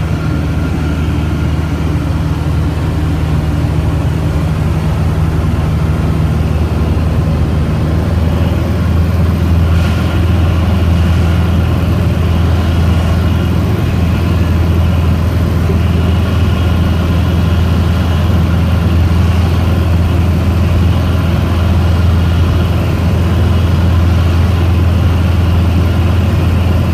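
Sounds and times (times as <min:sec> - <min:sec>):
propeller aircraft engine droning: 0:00.0 - 0:26.9.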